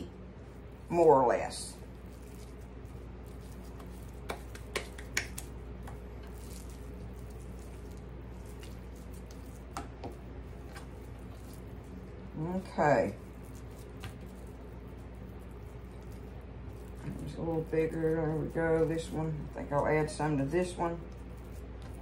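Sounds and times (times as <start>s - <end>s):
meat squishing: 0.0s - 22.0s
hands patting meat: 2.0s - 22.0s.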